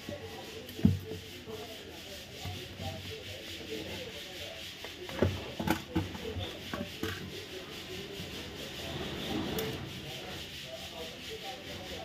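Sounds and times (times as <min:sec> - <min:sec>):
plastic casing rubbing and scraping: 0:00.0 - 0:12.0.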